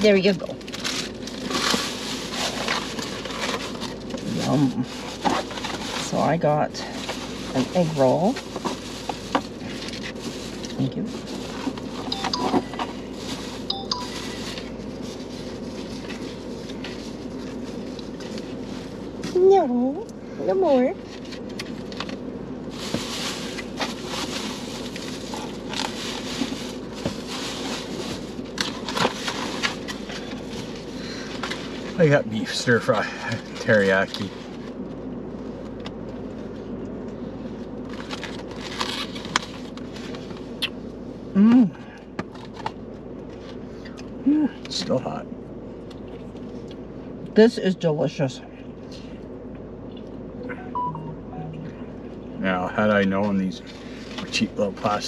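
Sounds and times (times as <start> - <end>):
steady background hum: 0.0 - 55.0.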